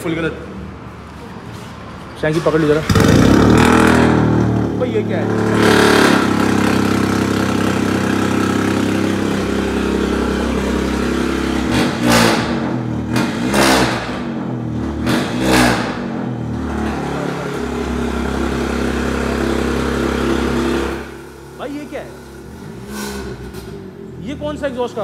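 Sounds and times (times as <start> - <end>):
car exhaust idling and revving: 2.6 - 25.0.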